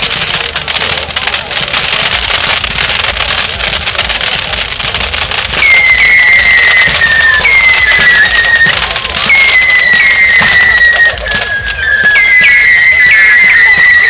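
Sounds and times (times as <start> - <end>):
fireworks crackling hiss: 0.0 - 14.0
whistling fireworks: 0.0 - 14.0.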